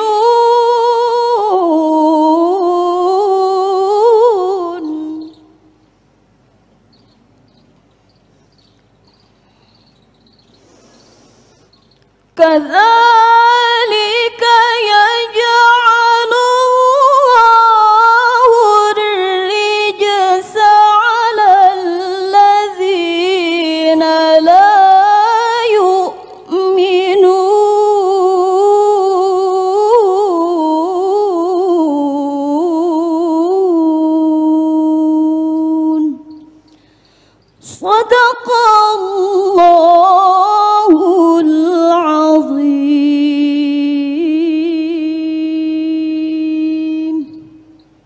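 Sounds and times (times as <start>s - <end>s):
woman reciting melodically: 0.0s - 5.9s, 6.8s - 48.0s.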